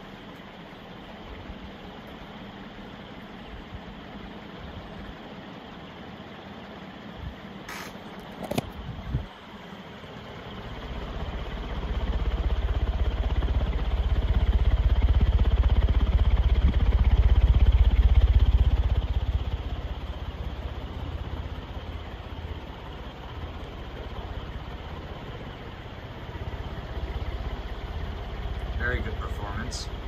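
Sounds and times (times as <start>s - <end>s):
ceiling fan wind buffeting microphone: 0.0s - 30.0s.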